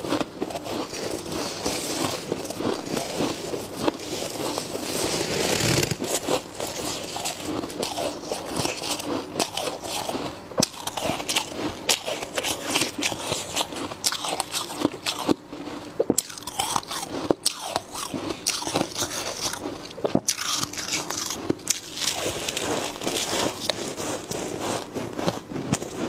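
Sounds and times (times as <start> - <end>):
frost being chewed: 0.0 - 26.0.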